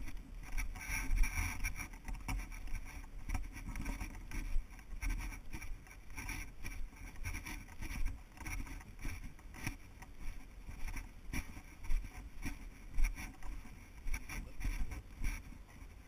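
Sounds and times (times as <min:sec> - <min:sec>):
footsteps crunching on dirt: 0:01.0 - 0:15.6.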